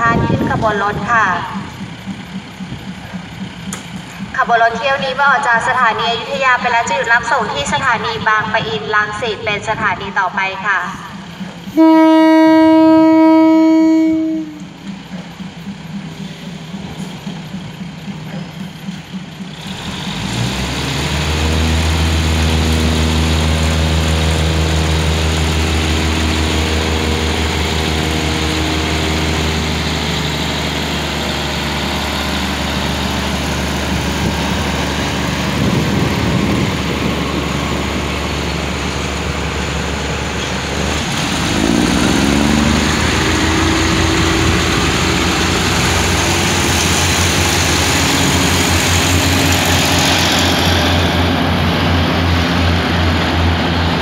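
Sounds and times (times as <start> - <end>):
diesel train engines humming: 0.0 - 54.0.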